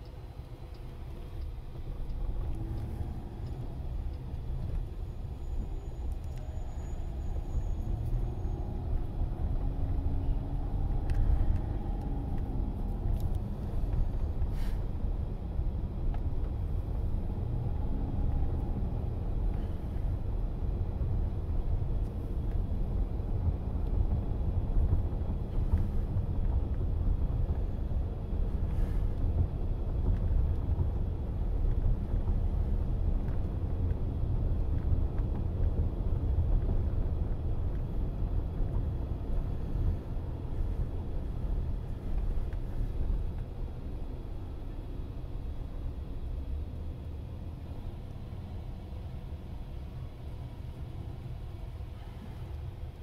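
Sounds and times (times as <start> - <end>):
road rumble inside car: 0.0 - 53.0.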